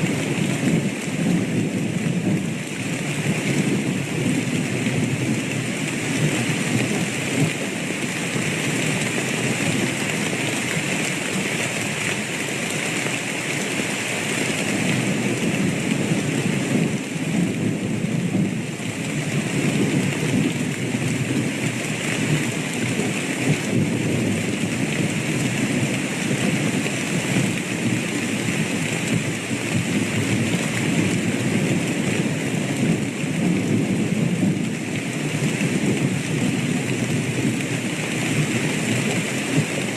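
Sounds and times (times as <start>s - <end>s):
low rolling thunder: 0.0s - 12.3s, 14.6s - 39.9s
steady rain falling: 0.0s - 39.9s.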